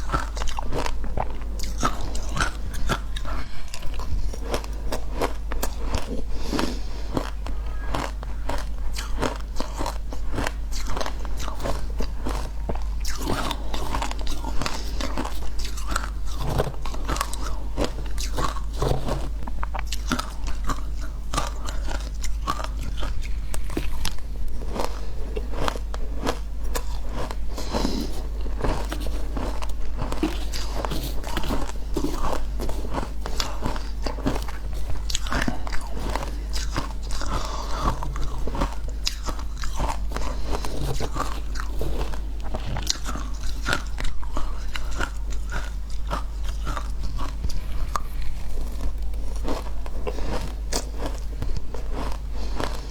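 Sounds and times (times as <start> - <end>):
crunching and chewing shaved ice: 0.0 - 52.9.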